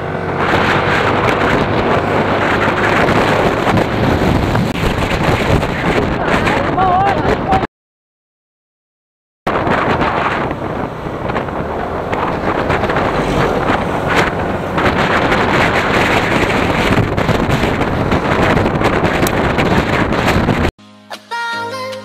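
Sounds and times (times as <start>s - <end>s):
motorcycle engine running: 0.0s - 6.6s, 9.5s - 20.7s
wind rushing on microphone: 0.0s - 7.7s, 9.5s - 20.7s.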